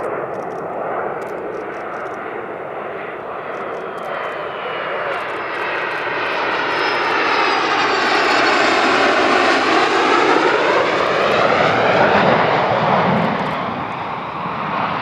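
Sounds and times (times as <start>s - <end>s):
jet flying past: 0.0s - 15.0s.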